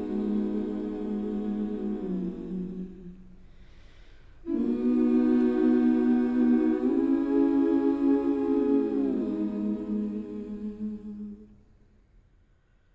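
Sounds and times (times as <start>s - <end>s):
a cappella humming chords: 0.0s - 11.8s.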